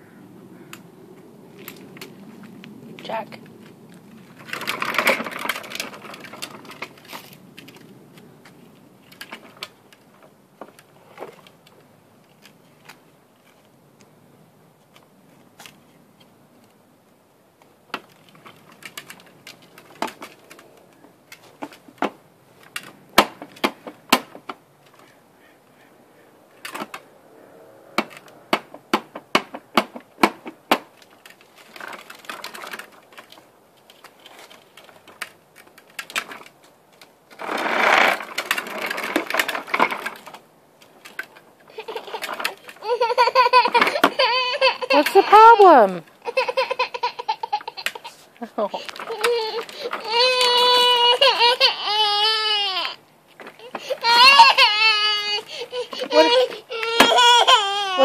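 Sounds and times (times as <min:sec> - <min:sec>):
plastic tricycle rattling on concrete: 0:01.5 - 0:13.7, 0:17.8 - 0:25.1, 0:26.6 - 0:27.1, 0:27.9 - 0:58.0.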